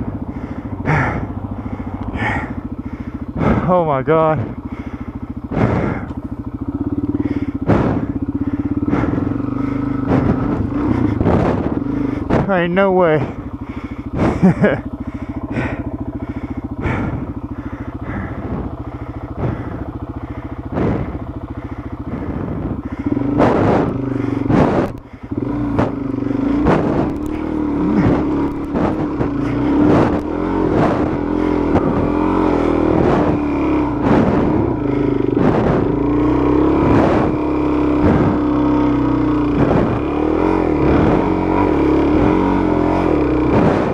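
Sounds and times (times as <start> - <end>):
motorcycle engine running: 0.0 - 43.9
motorcycle knocks and clatter: 0.0 - 43.9.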